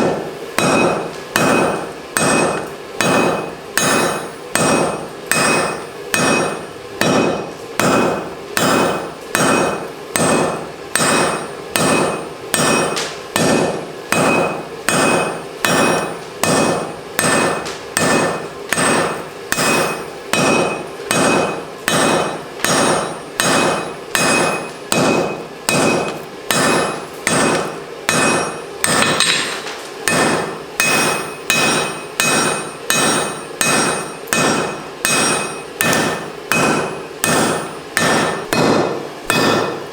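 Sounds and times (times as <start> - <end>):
hammer striking steel on anvil: 0.0 - 39.9.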